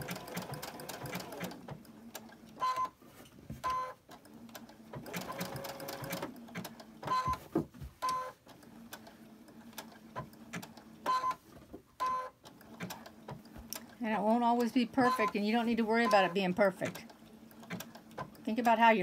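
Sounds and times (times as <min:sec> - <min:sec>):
sewing machine whirring: 0:00.0 - 0:03.0, 0:03.6 - 0:07.4, 0:08.0 - 0:19.0.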